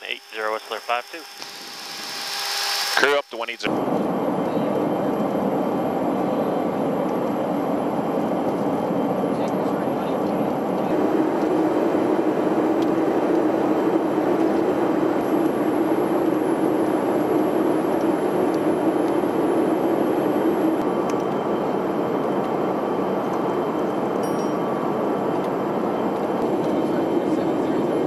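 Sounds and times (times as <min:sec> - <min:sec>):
aircraft cabin drone: 0:00.0 - 0:28.0
low hum: 0:03.7 - 0:28.0.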